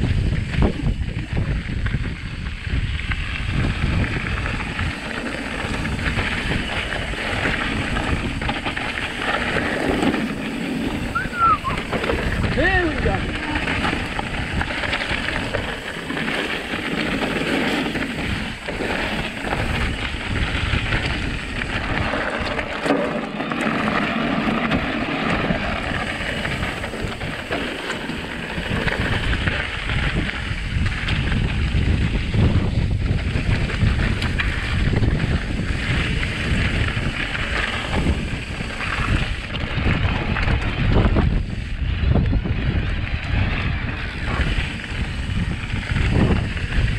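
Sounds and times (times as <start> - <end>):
wind on microphone: 0.0 - 22.9, 23.8 - 46.9
mountain bike rattling on dirt trail: 0.0 - 46.9.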